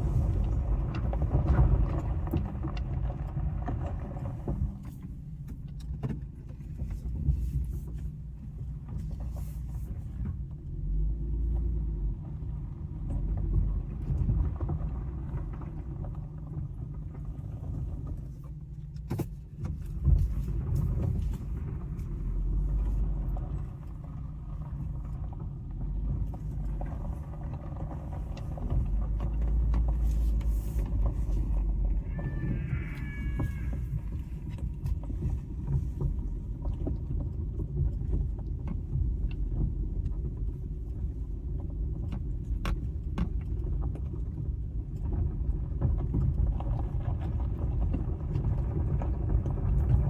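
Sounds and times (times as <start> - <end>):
car cabin rumble: 0.0 - 50.0.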